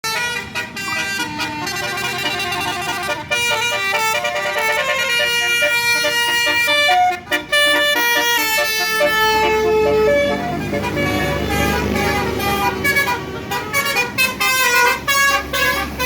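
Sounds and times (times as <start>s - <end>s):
musical bus air horns: 0.0s - 16.0s.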